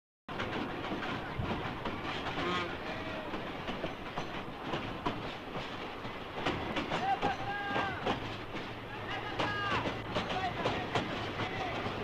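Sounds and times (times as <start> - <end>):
train wheels rattling on rails: 0.3 - 12.0.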